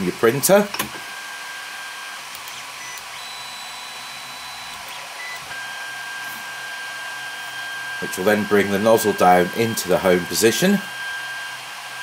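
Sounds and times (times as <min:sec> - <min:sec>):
cooling fans whirring: 0:00.0 - 0:12.0
stepper motors whining: 0:01.1 - 0:12.0.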